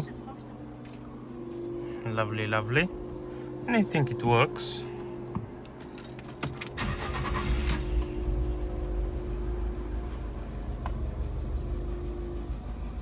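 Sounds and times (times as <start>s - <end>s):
car engine starting and idling: 2.1s - 13.0s.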